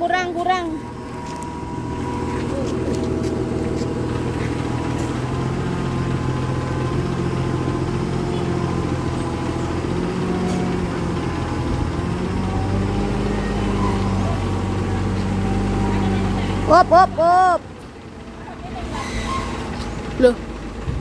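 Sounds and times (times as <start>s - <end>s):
forklift engine running: 0.0s - 21.0s.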